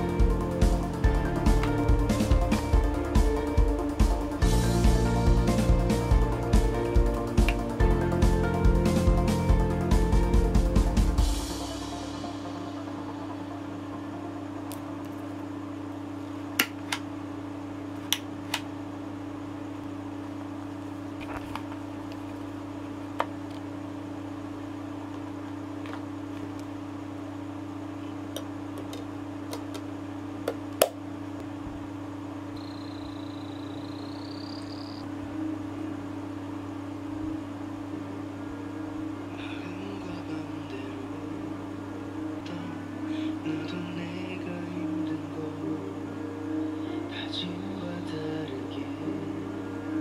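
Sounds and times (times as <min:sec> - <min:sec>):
faint high whine: 0:00.0 - 0:50.0
steady low hum: 0:00.0 - 0:50.0.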